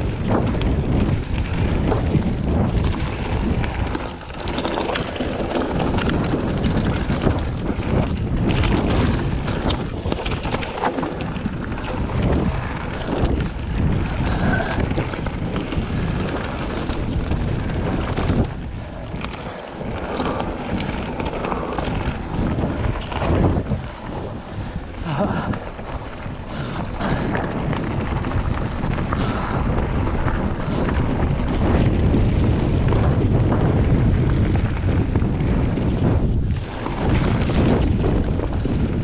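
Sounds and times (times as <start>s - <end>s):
bike rattling and clattering: 0.0s - 39.0s
tyres running over gravel: 0.0s - 39.0s
wind buffeting microphone: 0.0s - 39.0s.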